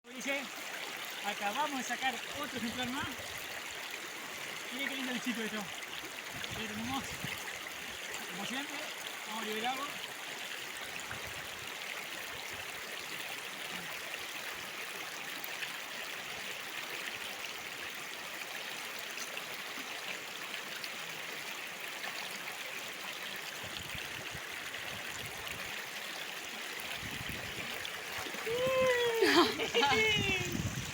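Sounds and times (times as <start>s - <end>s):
river water flowing: 0.1s - 30.9s.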